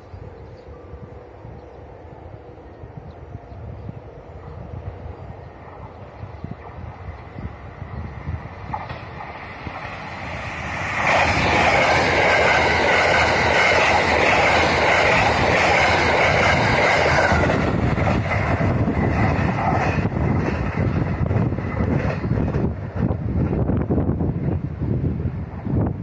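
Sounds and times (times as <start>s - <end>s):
train wheels rushing on rails: 0.0s - 26.0s.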